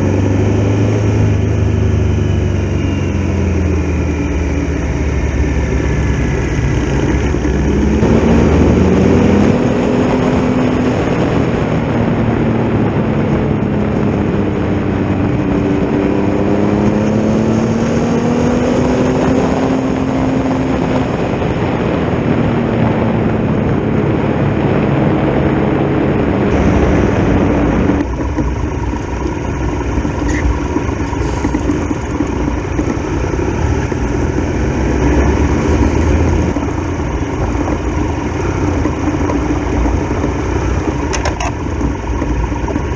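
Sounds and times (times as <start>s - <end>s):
motorcycle engine shifting gears: 0.0s - 42.9s
wind rush on microphone: 0.0s - 42.9s.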